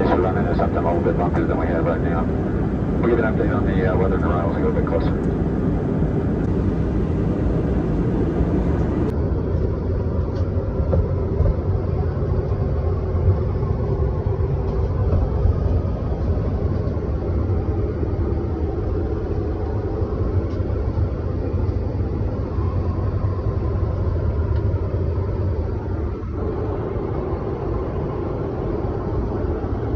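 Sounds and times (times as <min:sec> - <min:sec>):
airplane cabin engine drone: 0:00.0 - 0:29.9.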